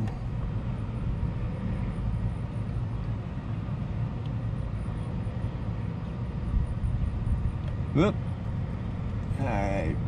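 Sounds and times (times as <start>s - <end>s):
faint hum: 0.0s - 10.0s
low outdoor rumble: 0.0s - 10.0s.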